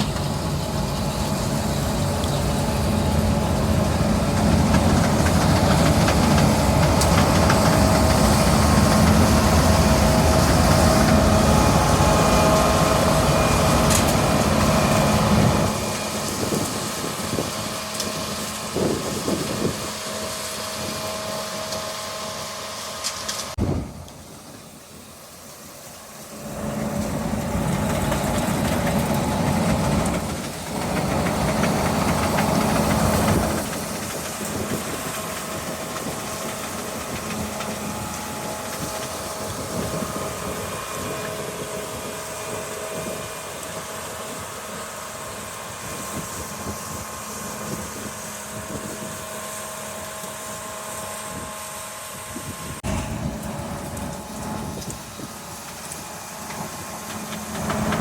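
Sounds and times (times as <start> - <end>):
farm machine engine running: 0.0 - 25.0, 26.0 - 58.0.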